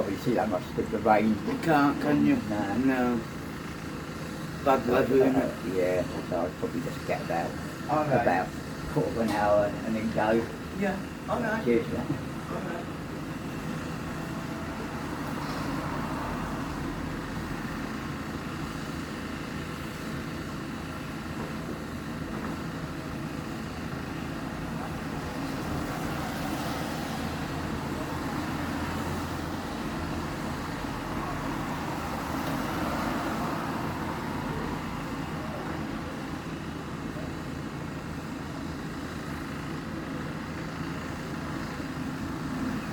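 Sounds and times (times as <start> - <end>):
motor engines rumbling: 0.0 - 42.9.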